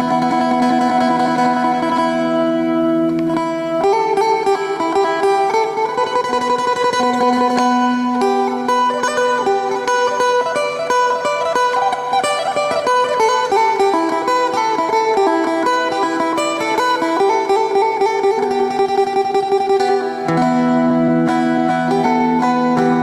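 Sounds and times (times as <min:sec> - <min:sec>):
plucked-string melody over drone: 0:00.0 - 0:23.0.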